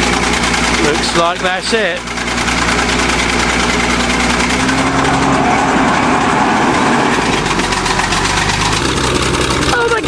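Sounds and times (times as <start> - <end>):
bulldozer diesel engine under load: 0.0 - 10.0.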